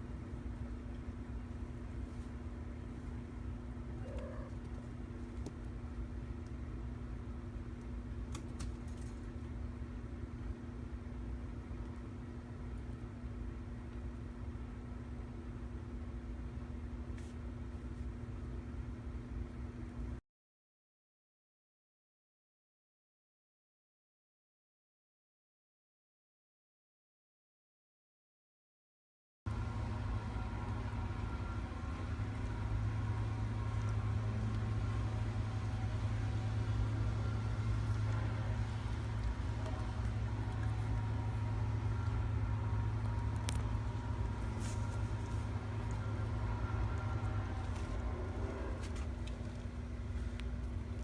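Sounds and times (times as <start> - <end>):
machine rumble and hum: 0.0 - 20.2, 29.5 - 51.0.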